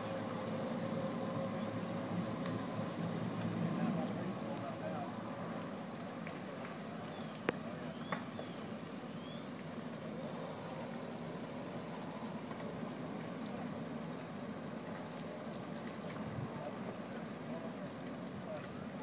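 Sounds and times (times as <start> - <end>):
fire rushing and crackling: 0.0 - 19.0.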